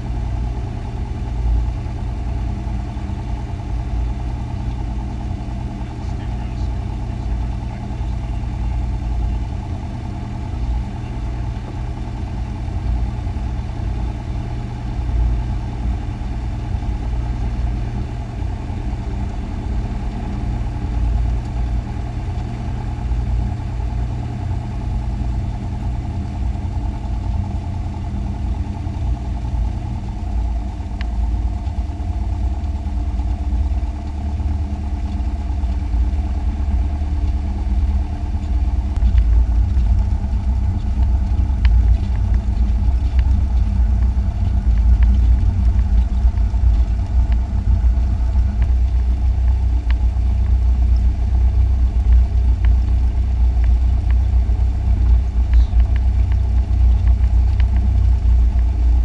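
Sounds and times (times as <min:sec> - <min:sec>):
propeller plane engine running: 0:00.0 - 0:59.0.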